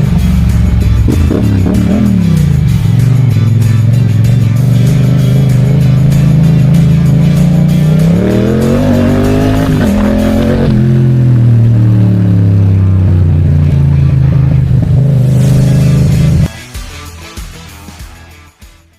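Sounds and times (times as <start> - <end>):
motorcycle engine running hard: 0.0 - 16.5.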